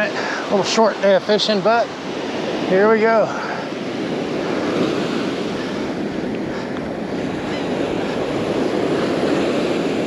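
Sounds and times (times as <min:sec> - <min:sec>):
surf washing onto beach: 0:00.0 - 0:10.0
wind rumbling on microphone: 0:01.9 - 0:10.0.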